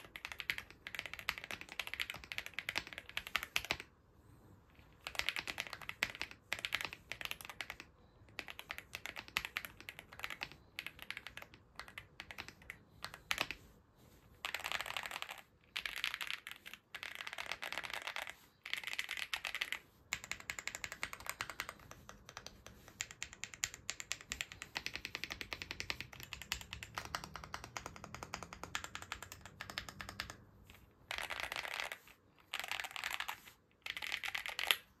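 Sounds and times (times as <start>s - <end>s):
mechanical keyboard typing clacks: 0.0s - 3.9s, 5.0s - 13.6s, 14.4s - 30.5s, 31.1s - 34.8s.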